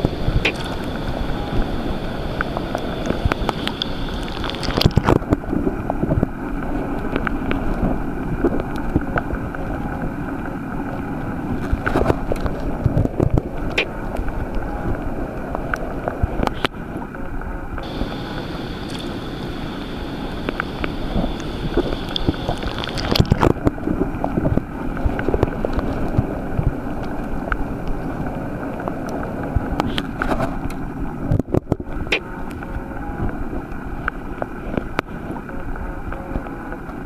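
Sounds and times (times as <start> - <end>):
low underwater rumble: 0.0 - 37.0
sharp clicks and crackles: 0.0 - 37.0.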